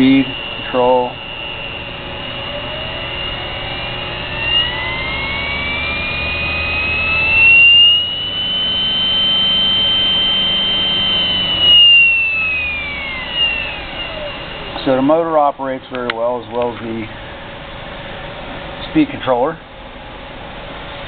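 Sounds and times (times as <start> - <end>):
lathe motor whine: 0.0 - 21.0.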